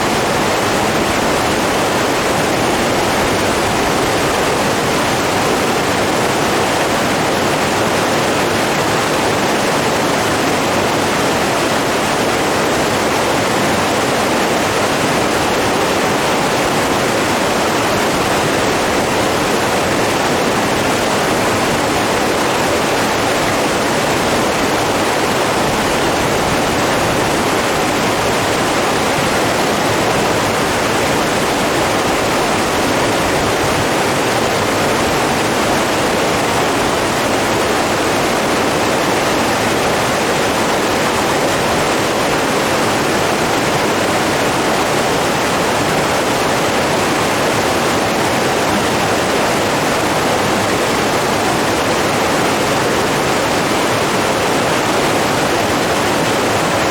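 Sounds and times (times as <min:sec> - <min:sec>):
rushing water: 0:00.0 - 0:56.9.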